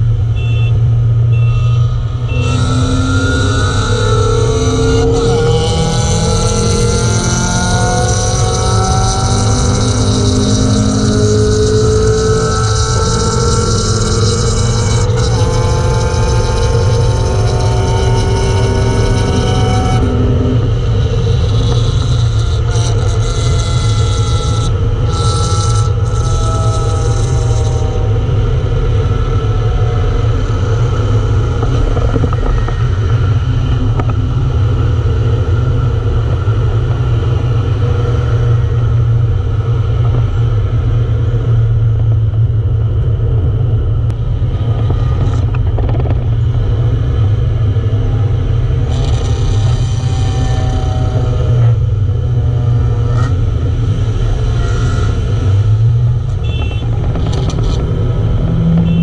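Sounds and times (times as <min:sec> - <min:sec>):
car engine drone: 0:00.0 - 0:59.0
tyre and road noise: 0:00.0 - 0:59.0.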